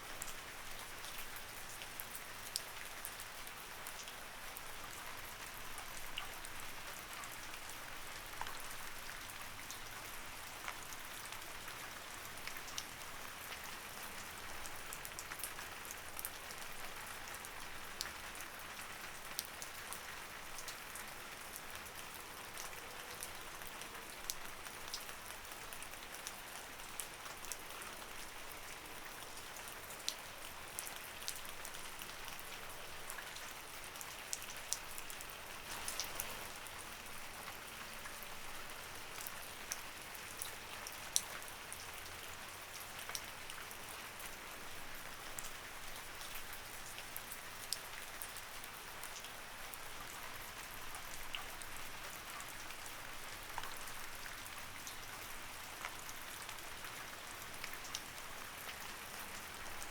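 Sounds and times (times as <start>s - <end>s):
light rain falling: 0.0s - 59.9s
raindrops ticking on a surface: 0.1s - 59.9s.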